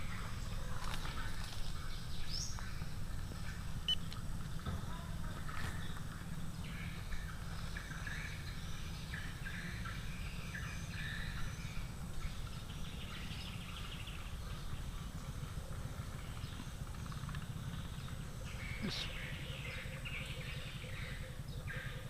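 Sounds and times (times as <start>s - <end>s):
steady low rumble: 0.0s - 21.8s
wild birds chirping: 0.0s - 22.0s.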